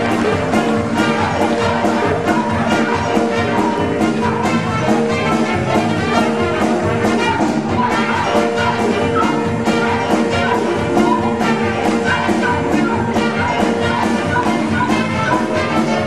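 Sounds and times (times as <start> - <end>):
brass band music: 0.0 - 16.0
drum and cymbal beat: 0.0 - 16.0.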